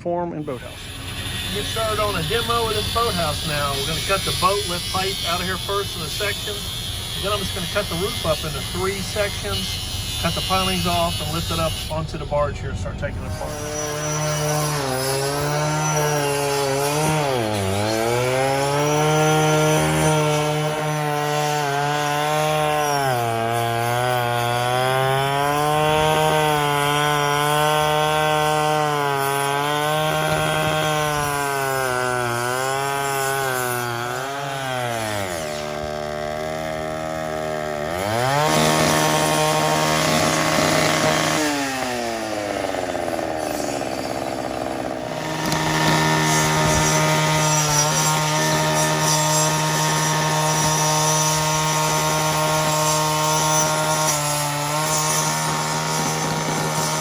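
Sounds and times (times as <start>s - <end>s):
power saw cutting pipe: 0.1s - 57.0s.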